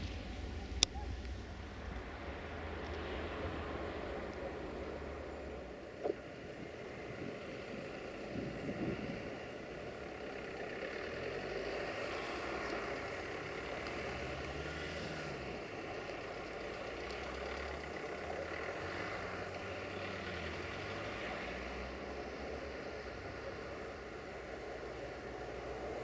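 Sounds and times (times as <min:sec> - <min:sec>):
distant locomotive diesel rumble: 0:00.0 - 0:26.0.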